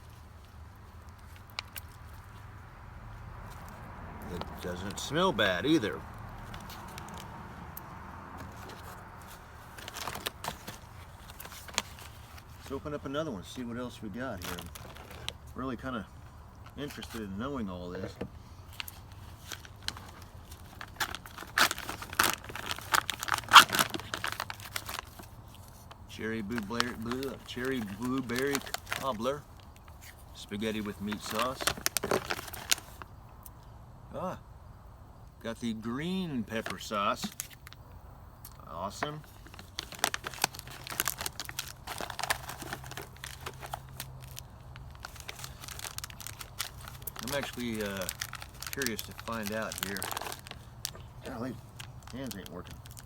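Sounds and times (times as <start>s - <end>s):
plastic packaging crinkling and tearing: 3.5s - 7.4s, 8.3s - 15.9s, 16.6s - 33.1s, 36.5s - 37.8s, 39.0s - 53.0s.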